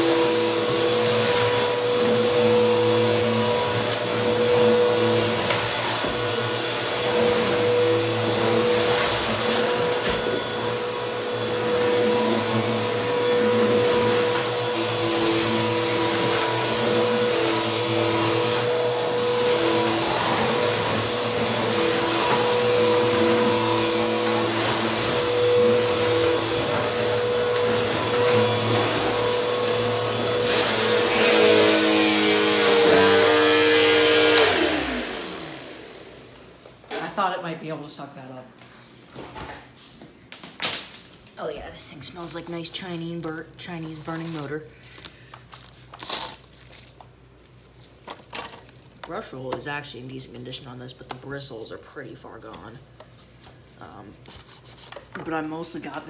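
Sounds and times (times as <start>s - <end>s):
vacuum cleaner running: 0.0s - 40.1s, 41.4s - 56.0s.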